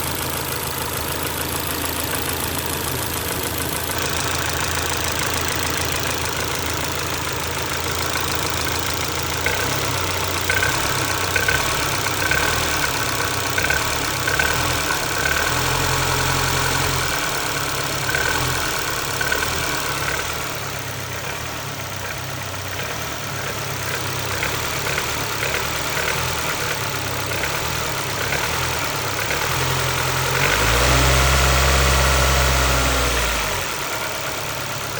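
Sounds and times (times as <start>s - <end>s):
engine knocks: 0.0s - 15.8s, 17.4s - 30.9s
car engine idling and revving: 0.0s - 34.9s.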